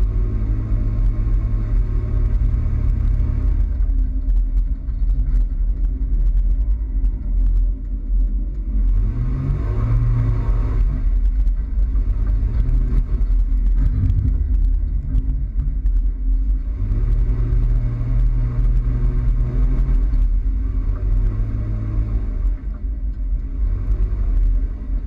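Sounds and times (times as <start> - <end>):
pickup engine rumbling: 0.0 - 25.0.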